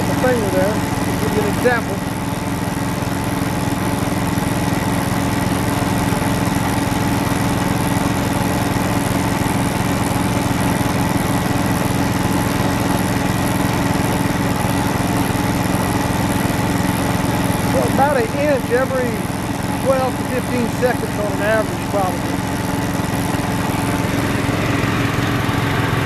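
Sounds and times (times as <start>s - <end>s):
drilling rig engine running: 0.0s - 26.0s.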